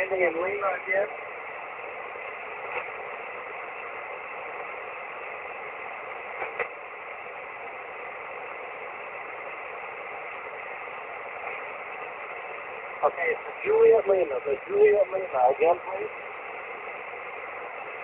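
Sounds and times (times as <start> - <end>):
faint steady tones: 0.0 - 18.0
radio receiver hiss and static: 0.0 - 18.0.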